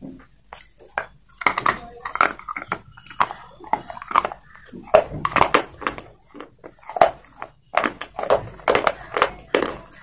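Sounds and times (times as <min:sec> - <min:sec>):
chewing crisp crunches: 0:01.3 - 0:10.0.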